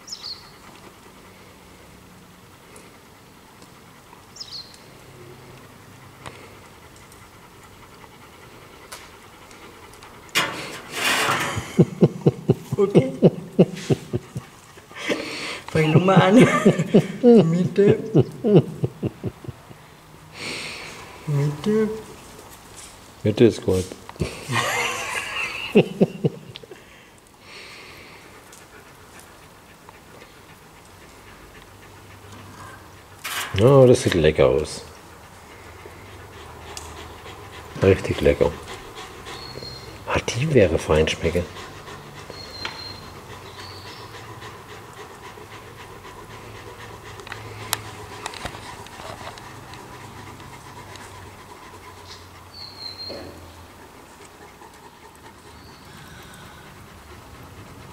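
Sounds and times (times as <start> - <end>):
dog panting: 0.3 - 57.9.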